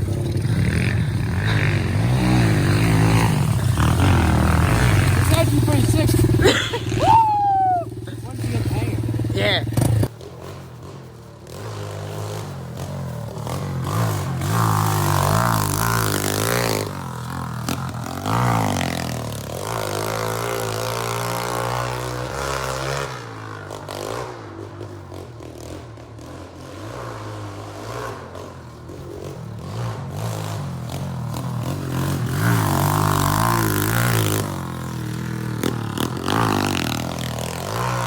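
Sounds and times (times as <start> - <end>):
motorbike engine revving: 0.0 - 38.0.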